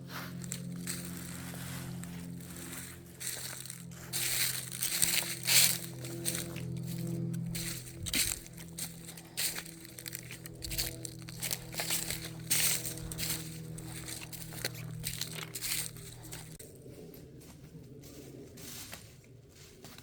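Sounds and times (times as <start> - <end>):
footsteps crunching dry leaves: 0.0 - 20.0
steady low hum: 0.0 - 20.0.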